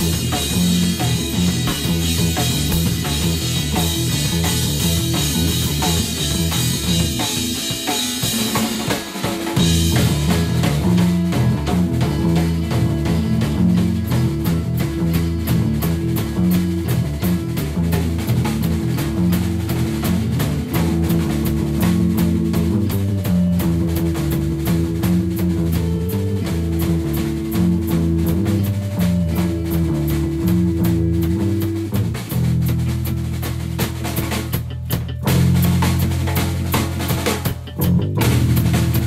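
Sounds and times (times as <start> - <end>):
drum kit steady beat: 0.0 - 39.0.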